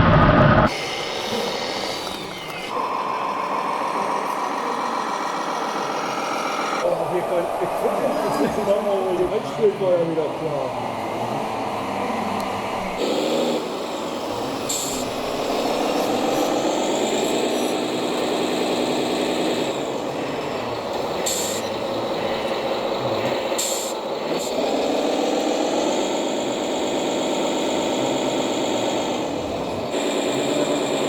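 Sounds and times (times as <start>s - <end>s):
model truck motor whine: 0.0s - 31.0s.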